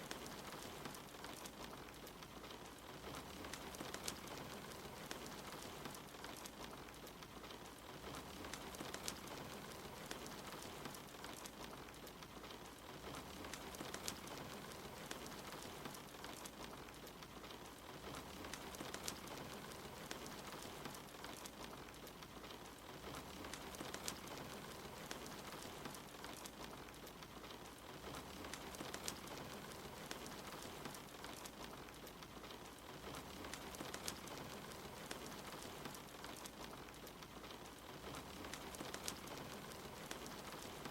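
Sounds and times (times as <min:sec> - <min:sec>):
soft rain: 0:00.0 - 0:40.9
wood fire crackling and popping: 0:00.0 - 0:40.9.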